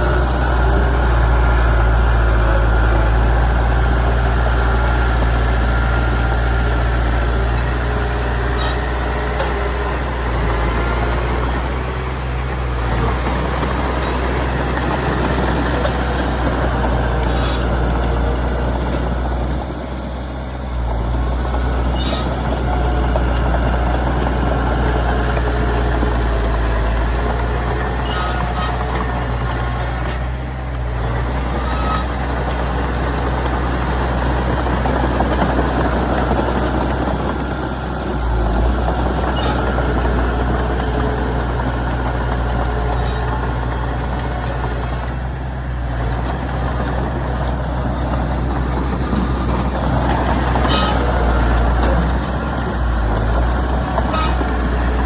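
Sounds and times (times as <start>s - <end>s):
diesel machinery engine rumble: 0.0s - 55.0s.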